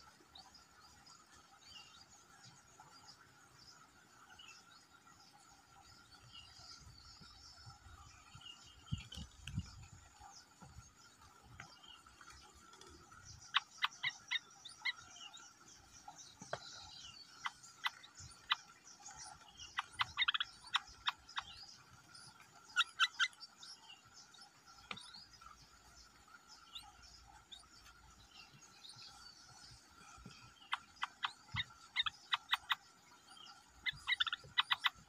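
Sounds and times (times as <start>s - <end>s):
background bird chorus: 0.0s - 35.0s.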